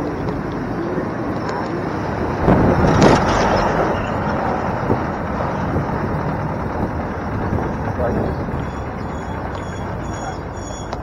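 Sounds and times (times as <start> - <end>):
truck road noise: 0.0 - 11.0.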